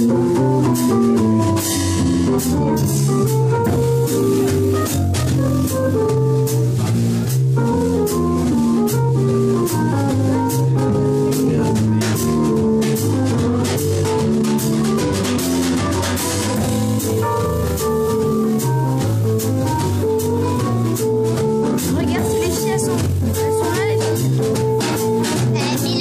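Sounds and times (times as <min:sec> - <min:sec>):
drum kit with cymbals: 0:00.0 - 0:26.0.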